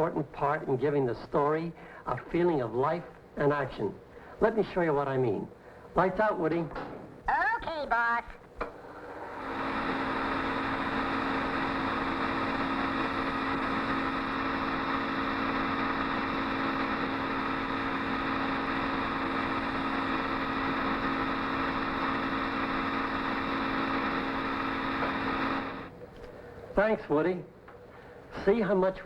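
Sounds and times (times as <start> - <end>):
constant hum: 0.0 - 29.0
film projector whirring: 0.0 - 29.0.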